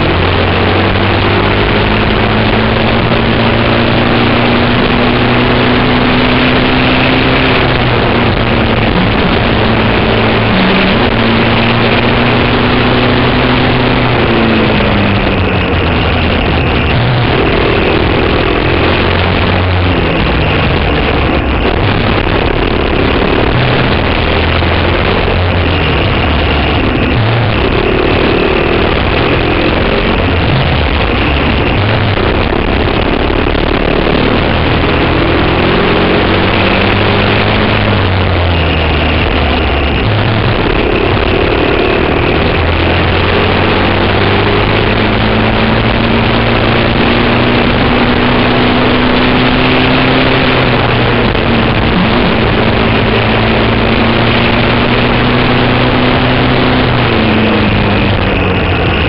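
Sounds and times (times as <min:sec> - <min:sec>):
kart engine at full pace: 0:00.0 - 0:59.0.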